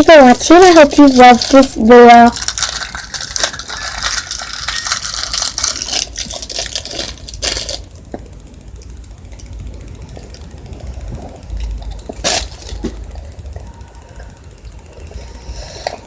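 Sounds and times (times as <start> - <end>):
crinkling and clicking handling: 0.4 - 13.8.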